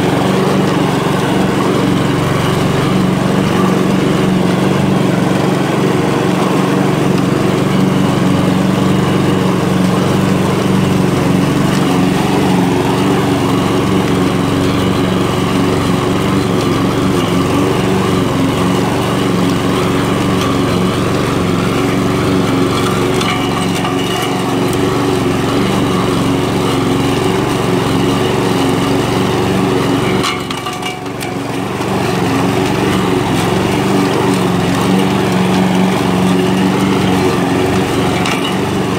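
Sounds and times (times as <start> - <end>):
lawn mower running: 0.0 - 38.9.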